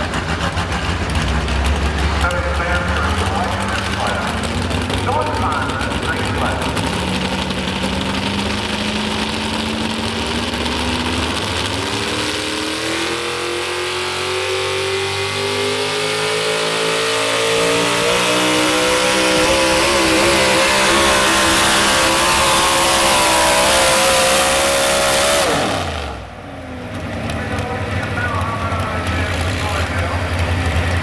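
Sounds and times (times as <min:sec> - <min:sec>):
truck engine revving under load: 0:00.0 - 0:31.0.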